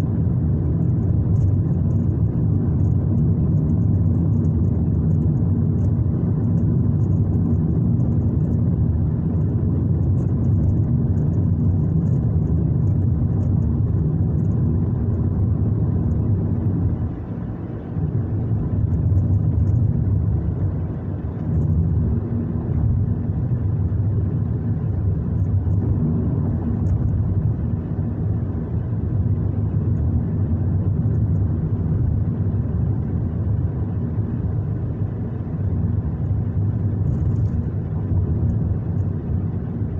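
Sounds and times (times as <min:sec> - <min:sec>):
car rumble from inside: 0:00.0 - 0:39.9.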